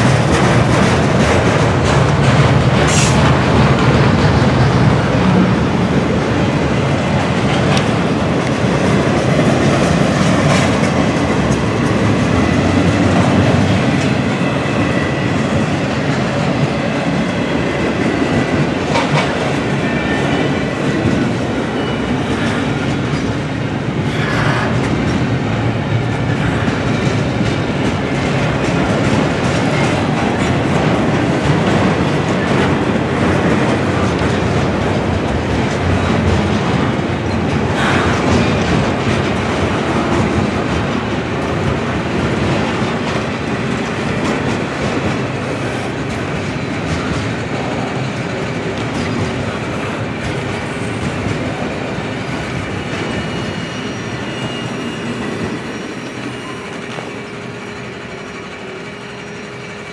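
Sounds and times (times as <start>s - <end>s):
sharp clacks of train wheels: 0.0s - 59.9s
steel wheels rumbling on rail: 0.0s - 59.9s.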